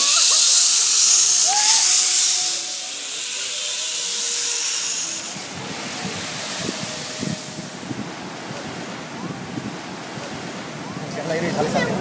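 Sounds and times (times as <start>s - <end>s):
zipline trolley hissing on cable: 0.0s - 10.4s.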